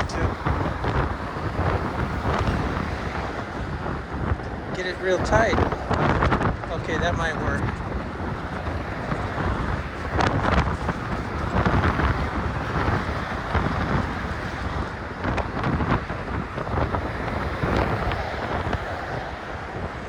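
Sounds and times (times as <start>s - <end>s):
road traffic rushing: 0.0s - 20.0s
wind buffeting phone microphone: 0.0s - 20.0s.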